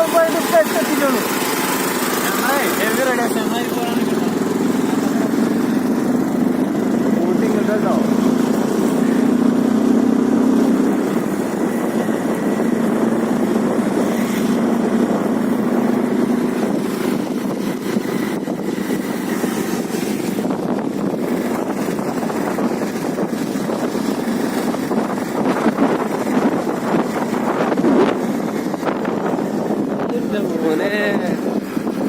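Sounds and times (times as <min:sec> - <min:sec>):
motorcycle engine running: 0:00.0 - 0:32.0
road noise: 0:00.0 - 0:32.0
rushing wind: 0:00.0 - 0:32.0.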